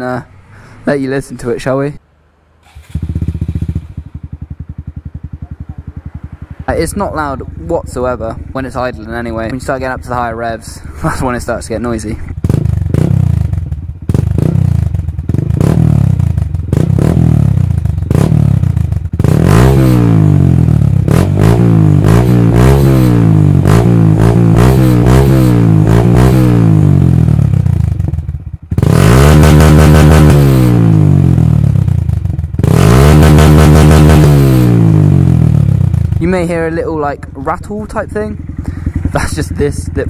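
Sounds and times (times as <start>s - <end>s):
motorcycle engine revving: 2.6s - 40.0s.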